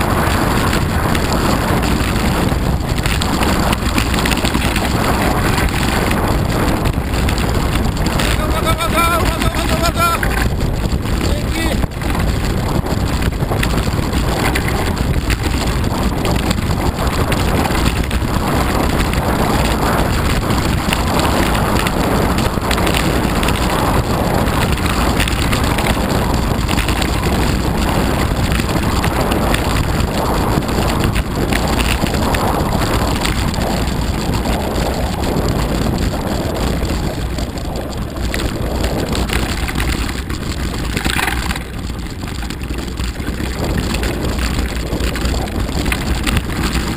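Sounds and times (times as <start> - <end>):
bike tyres rumbling on snow: 0.0 - 46.9
wind buffeting microphone: 0.0 - 46.9.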